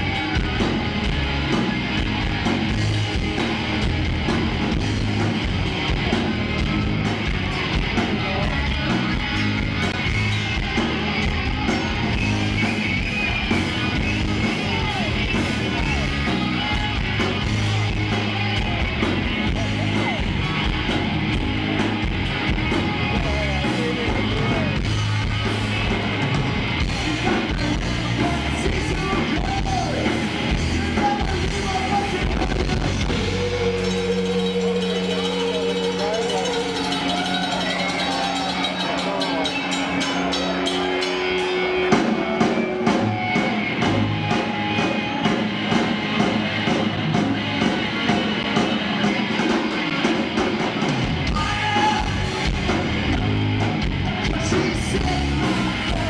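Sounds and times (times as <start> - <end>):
bending lead guitar: 0.0 - 56.0
rock band playing: 0.0 - 56.0.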